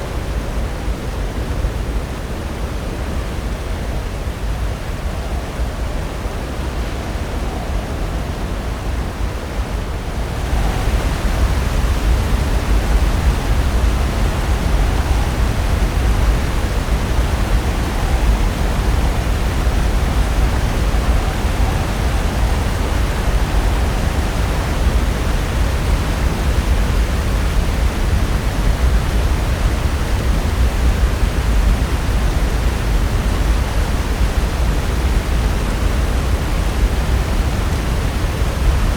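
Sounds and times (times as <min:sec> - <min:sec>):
ocean surf breaking on shore: 0:00.0 - 0:38.9.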